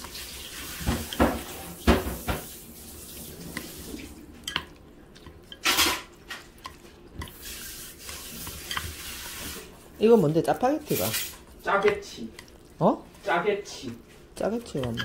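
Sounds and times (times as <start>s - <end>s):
wet noodle sounds: 0.0s - 15.0s.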